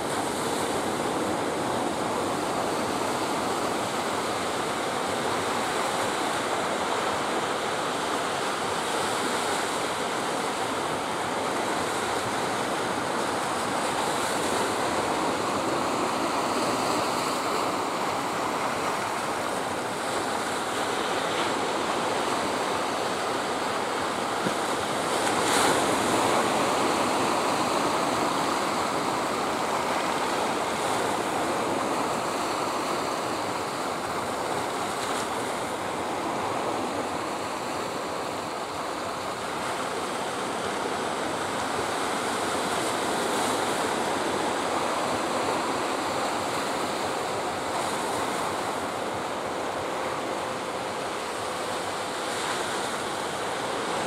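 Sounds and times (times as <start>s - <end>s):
sea surf washing onto shore: 0.0s - 54.0s.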